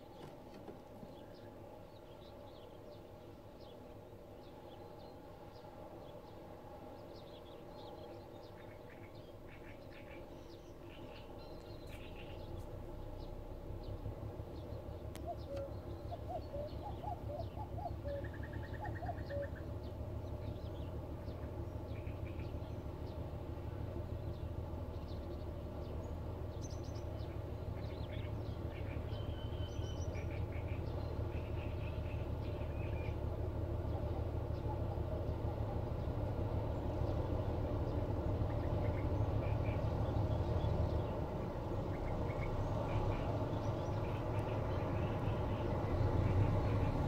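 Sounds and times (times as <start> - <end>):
birds chirping: 0.0 - 47.0
pulsing diesel engine rumble: 0.0 - 47.0.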